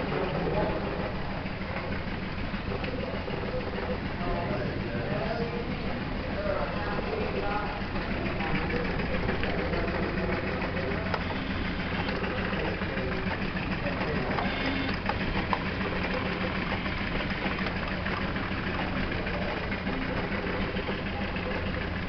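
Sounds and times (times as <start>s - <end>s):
belt-driven machines humming: 0.0s - 22.0s.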